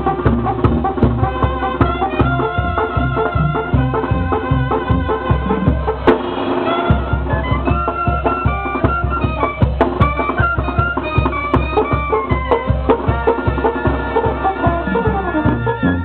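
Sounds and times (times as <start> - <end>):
clarinet and trumpets melody: 0.0 - 16.0
sousaphone bass line: 0.0 - 16.0
steady drum beat: 0.0 - 16.0.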